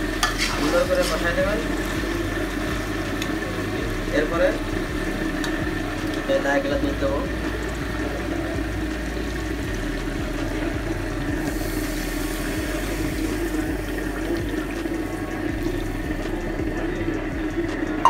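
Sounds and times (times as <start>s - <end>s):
liquid pouring into a pot: 0.0s - 17.6s.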